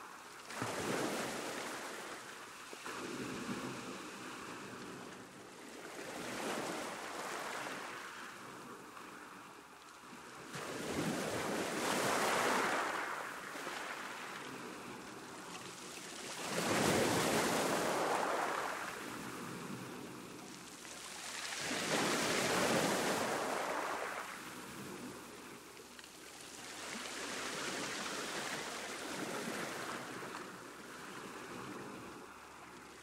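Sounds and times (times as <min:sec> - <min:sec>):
sea waves breaking on shore: 0:00.0 - 0:33.0.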